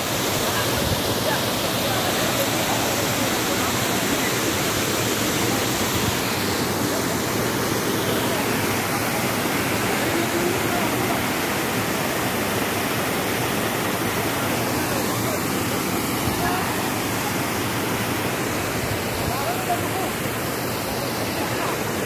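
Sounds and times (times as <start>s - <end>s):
waterfall rushing into pool: 0.0s - 22.0s.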